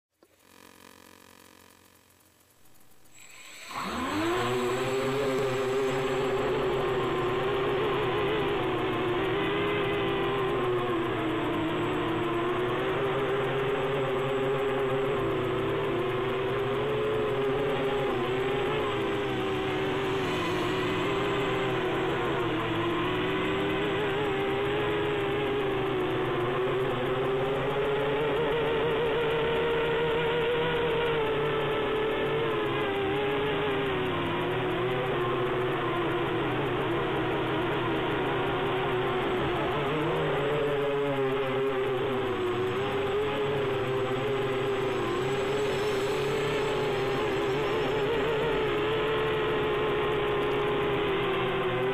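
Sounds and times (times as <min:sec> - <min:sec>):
drone motors whining: 0:00.2 - 0:51.9.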